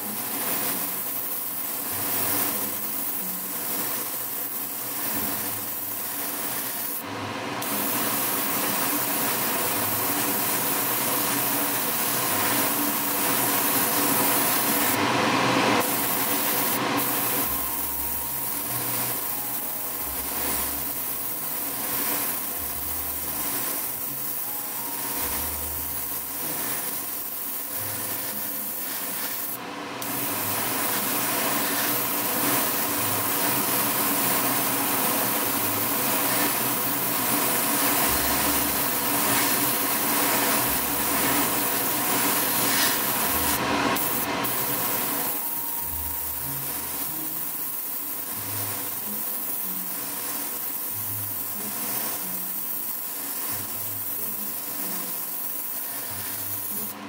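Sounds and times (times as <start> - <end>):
airbrush spraying hiss: 0.0 - 15.1, 15.8 - 57.0
mechanical hum: 0.0 - 57.0.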